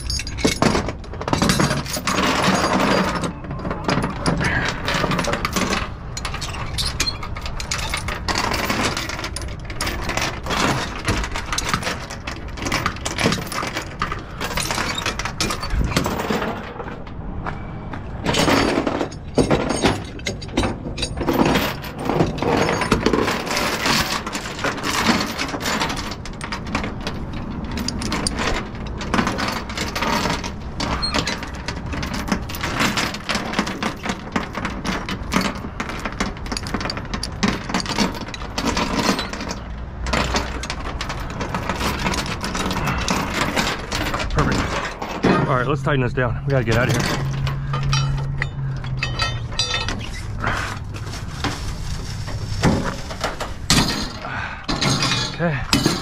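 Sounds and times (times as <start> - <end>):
metal chain clinking and rattling: 0.0 - 17.0, 18.2 - 56.0.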